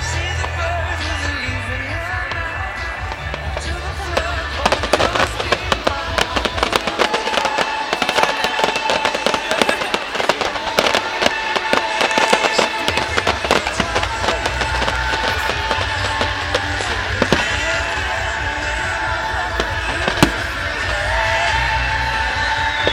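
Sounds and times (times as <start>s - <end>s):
fireworks crackling and popping: 0.0s - 22.9s
music playing: 0.0s - 22.9s.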